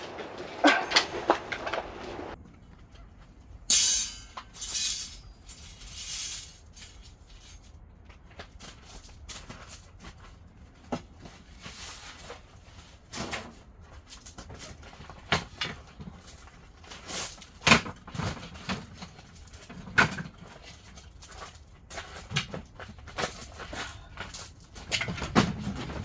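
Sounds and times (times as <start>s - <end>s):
objects knocking and clattering: 0.0s - 11.4s, 13.2s - 26.0s.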